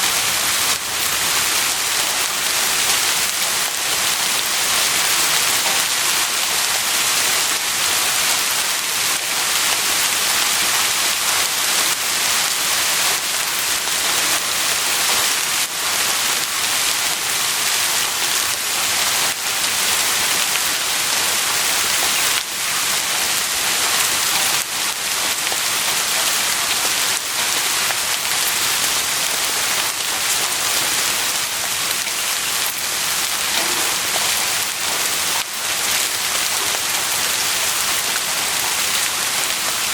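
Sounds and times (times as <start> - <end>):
heavy rain hiss: 0.0 - 39.9
raindrops pattering on surfaces: 0.0 - 39.9.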